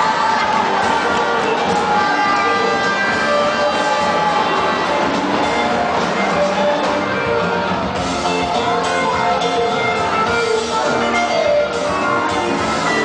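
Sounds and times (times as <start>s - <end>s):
rock music over sound system: 0.0s - 13.0s.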